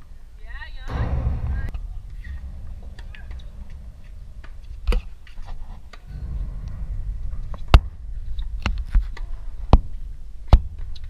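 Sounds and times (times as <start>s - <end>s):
low steady rumble: 0.8s - 11.0s.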